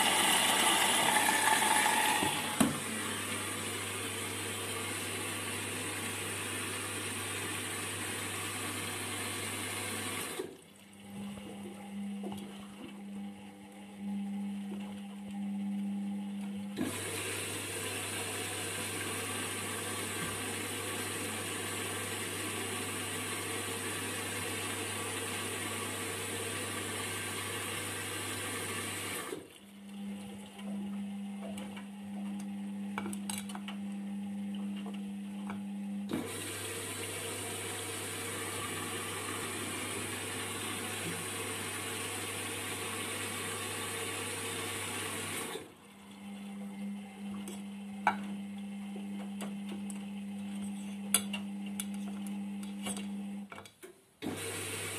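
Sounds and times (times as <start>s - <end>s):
water filling washing machine: 0.0s - 53.5s, 54.2s - 54.9s.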